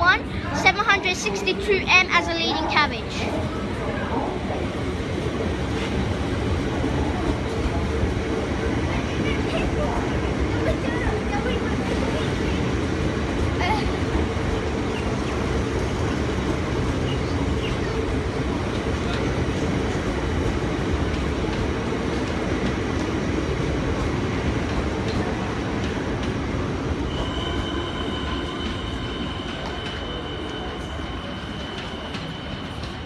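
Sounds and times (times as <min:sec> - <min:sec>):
electric train rolling past: 0:00.0 - 0:33.0.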